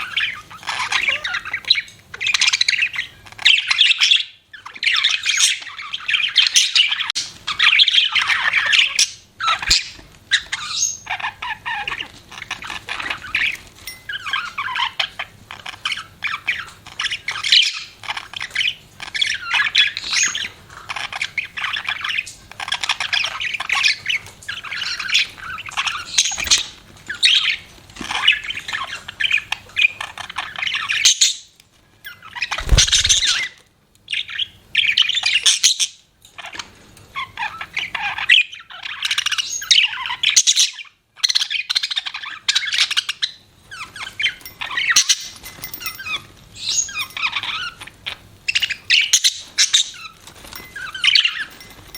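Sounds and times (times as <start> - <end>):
budgerigars chirping and squawking: 0.0 - 51.9.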